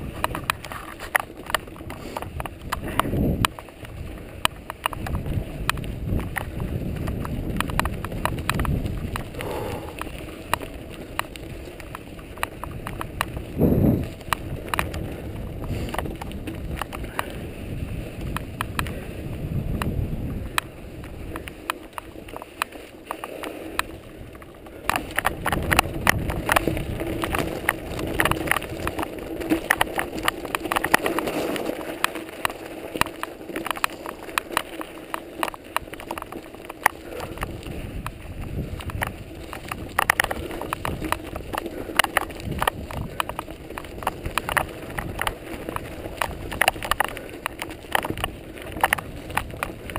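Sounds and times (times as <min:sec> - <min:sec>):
wind buffeting microphone: 0:00.0 - 0:31.8, 0:32.8 - 0:49.9
bike rattles and clicks: 0:00.0 - 0:49.9
bike tyre noise: 0:00.0 - 0:49.9.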